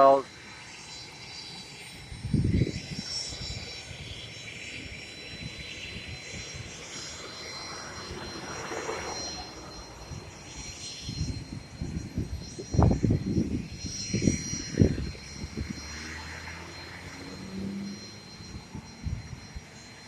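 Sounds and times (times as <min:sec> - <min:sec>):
aircraft engine running: 0:00.0 - 0:20.0.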